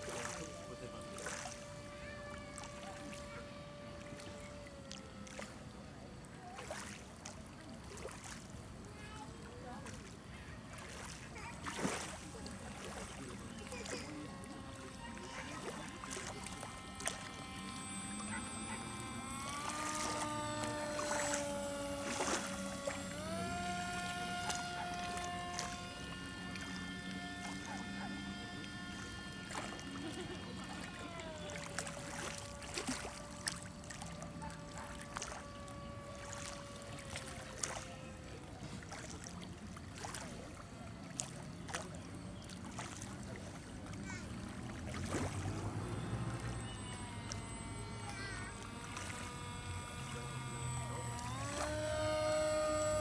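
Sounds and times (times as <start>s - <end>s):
model plane motor whine: 0.0s - 53.0s.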